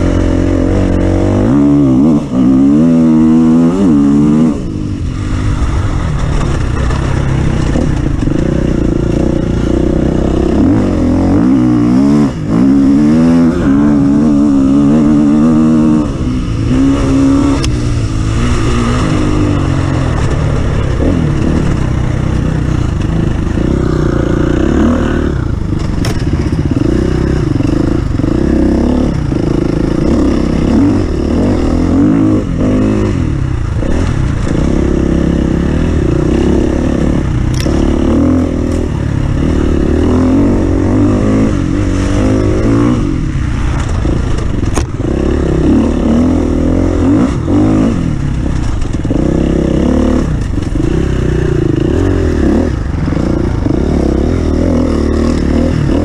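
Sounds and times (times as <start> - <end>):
racing vehicle engine revving: 0.0 - 56.0.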